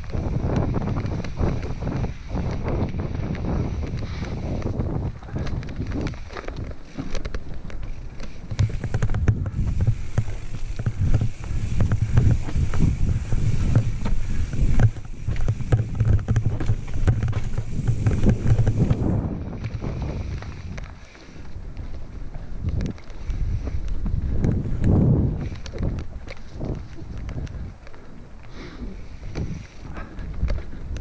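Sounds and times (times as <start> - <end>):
bike rattling and knocking: 0.0 - 28.1
bike tyres rumbling over stones: 0.0 - 31.0
wind buffeting microphone: 0.0 - 31.0.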